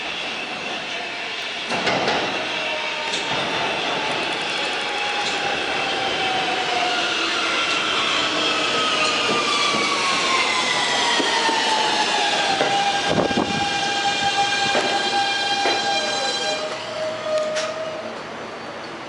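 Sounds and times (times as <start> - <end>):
subway train motor whine: 0.0 - 19.0.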